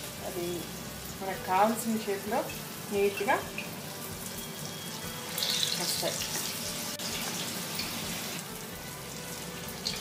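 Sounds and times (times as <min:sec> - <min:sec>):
deep-frying sizzle and bubbling: 0:00.0 - 0:10.0.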